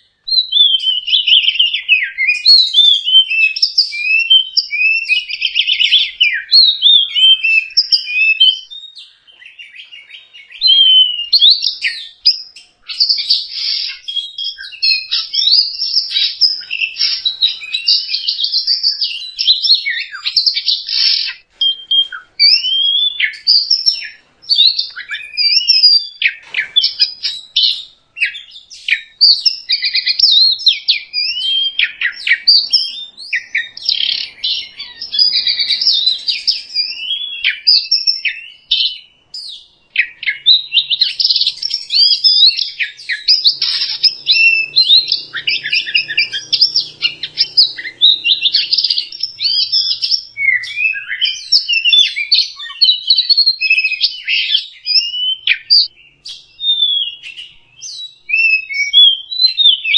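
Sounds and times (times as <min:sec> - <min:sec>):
bird singing chirps and trills: 0:00.0 - 0:59.9.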